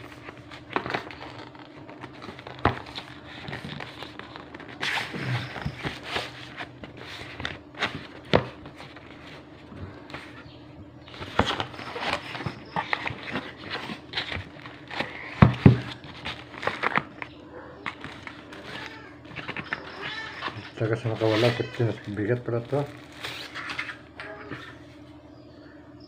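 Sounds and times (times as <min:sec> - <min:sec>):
cardboard and plastic rustling: 0:00.0 - 0:25.0.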